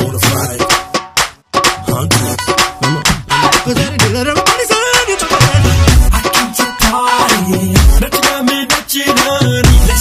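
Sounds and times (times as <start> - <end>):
loud dance music: 0.0 - 10.0.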